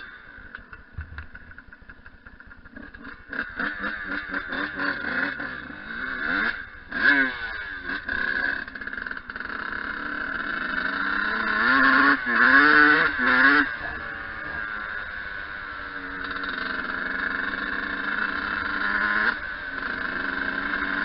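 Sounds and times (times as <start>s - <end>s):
two-stroke dirt bike engine revving: 0.0s - 21.0s.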